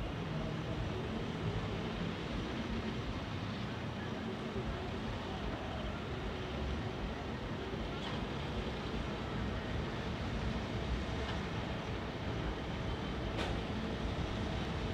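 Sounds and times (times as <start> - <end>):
vehicle road and engine noise: 0.0 - 14.9.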